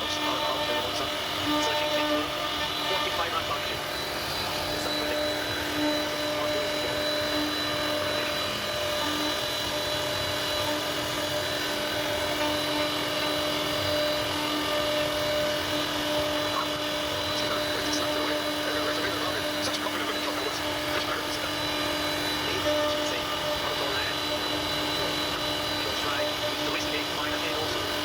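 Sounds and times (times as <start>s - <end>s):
router spindle whining: 0.0s - 28.0s.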